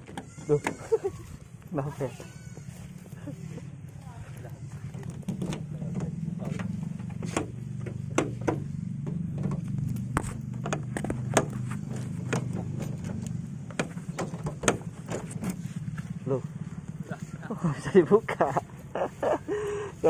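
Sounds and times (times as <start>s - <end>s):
van engine idling: 2.4s - 20.0s.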